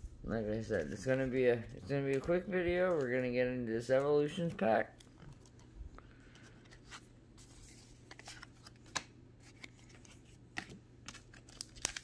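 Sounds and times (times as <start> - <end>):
cards rustling: 0.6 - 12.0.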